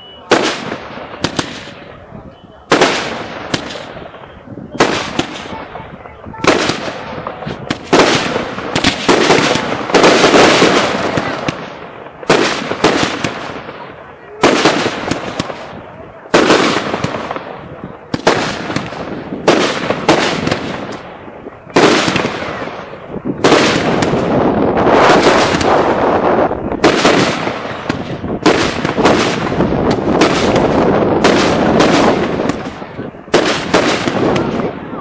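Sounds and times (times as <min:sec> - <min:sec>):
firework bangs: 0:00.0 - 0:35.0.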